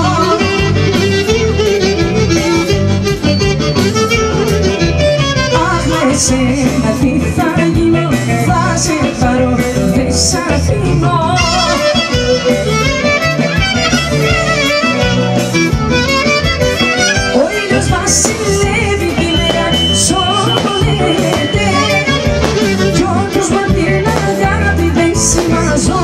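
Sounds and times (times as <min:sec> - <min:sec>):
live band playing folk music: 0:00.0 - 0:26.0.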